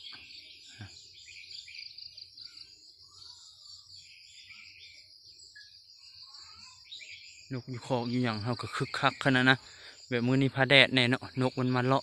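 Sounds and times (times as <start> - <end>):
small birds chirping: 0.0 - 12.0
high-pitched insect drone: 0.4 - 12.0.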